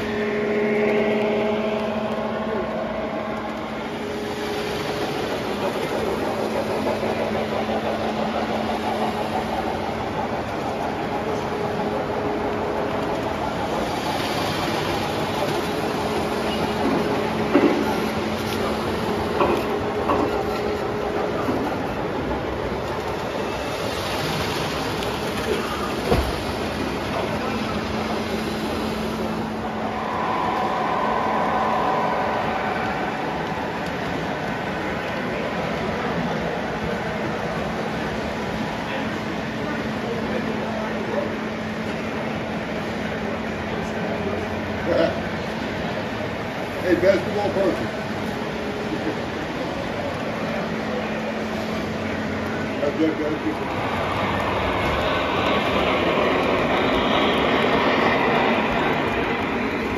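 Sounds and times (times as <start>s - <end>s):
model train wheels rumbling: 0.0s - 59.9s.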